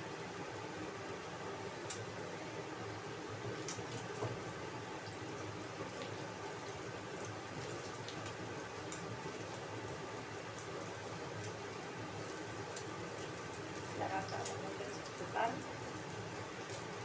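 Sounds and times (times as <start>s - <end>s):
food sizzling in oil: 0.1s - 17.0s.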